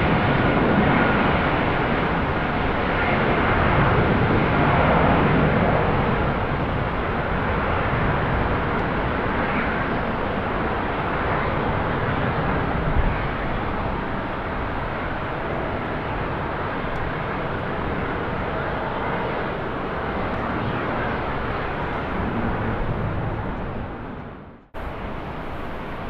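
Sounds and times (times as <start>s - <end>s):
jet engine noise: 0.0s - 26.0s
wind rumbling on microphone: 0.0s - 26.0s.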